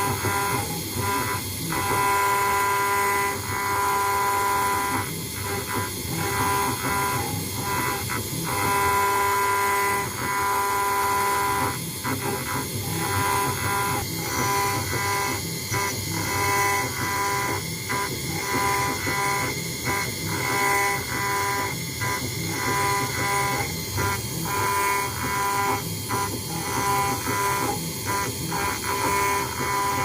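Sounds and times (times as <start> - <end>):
engraving machine motor whine: 0.0 - 30.0.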